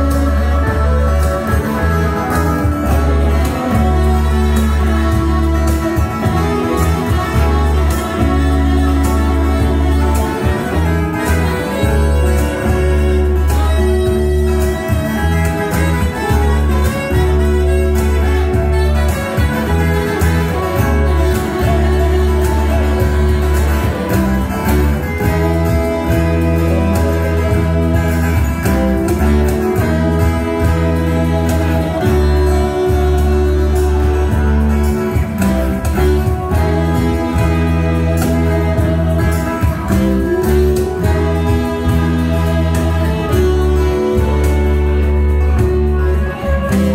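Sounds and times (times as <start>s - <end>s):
acoustic guitar: 0.0s - 46.9s
bass: 0.0s - 46.9s
live band playing: 0.0s - 46.9s
saxophone melody: 0.0s - 46.9s
steady drum beat: 0.0s - 46.9s.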